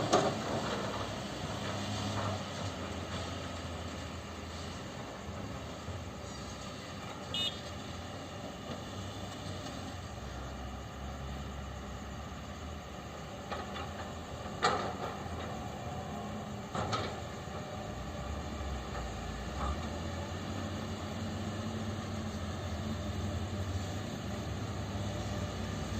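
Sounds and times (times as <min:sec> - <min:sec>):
truck engine rumbling: 0:00.0 - 0:25.9.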